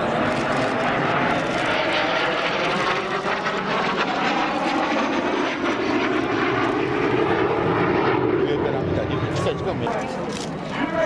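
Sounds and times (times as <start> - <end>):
jet flying past: 0.0 - 11.0.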